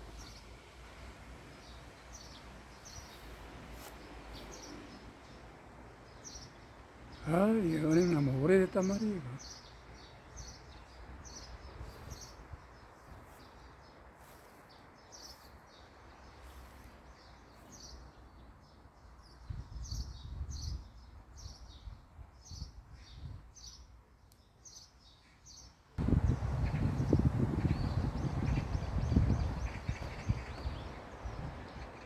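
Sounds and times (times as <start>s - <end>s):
faint outdoor background noise: 0.0s - 32.0s
small birds chirping: 0.0s - 32.0s.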